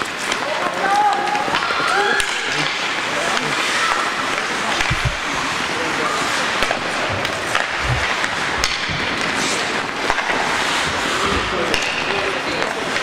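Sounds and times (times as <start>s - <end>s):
hockey sticks and puck clacking: 0.0s - 13.0s
murmur of spectators: 0.0s - 13.0s
skates scraping on ice: 0.0s - 13.0s.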